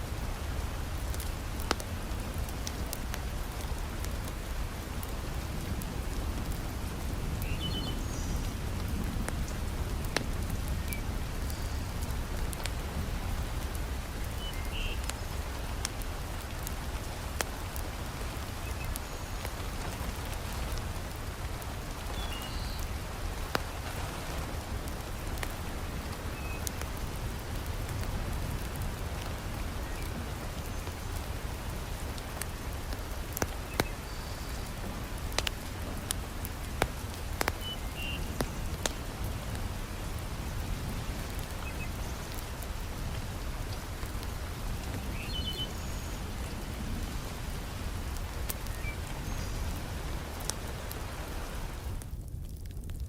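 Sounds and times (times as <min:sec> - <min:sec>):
heavy rain: 0:00.0 - 0:53.0
wood fire crackling: 0:00.0 - 0:53.0.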